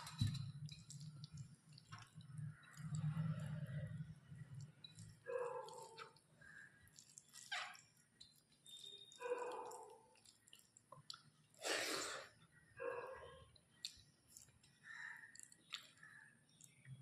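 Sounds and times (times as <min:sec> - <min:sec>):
chewing and wet mouth sounds: 0:00.0 - 0:12.4, 0:13.2 - 0:17.0.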